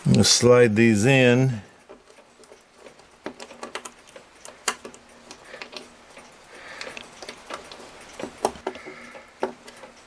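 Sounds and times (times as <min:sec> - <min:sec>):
small screws clicking: 0:01.8 - 0:10.0.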